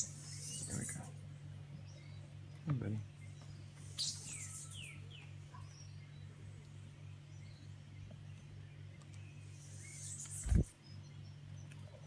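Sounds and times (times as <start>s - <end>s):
bird chirping: 0.0s - 12.0s
low hum: 0.0s - 12.0s.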